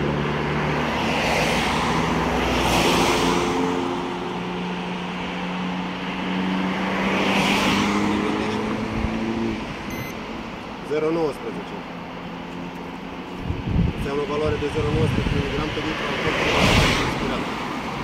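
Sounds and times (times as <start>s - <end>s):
cars passing by: 0.0s - 18.0s.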